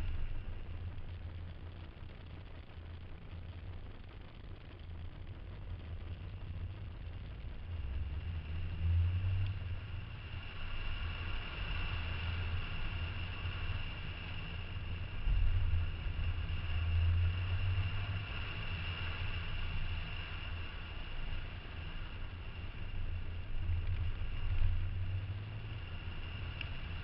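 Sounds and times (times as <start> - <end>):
car engine and road rumble: 0.0 - 27.0
steady hiss: 0.0 - 27.0.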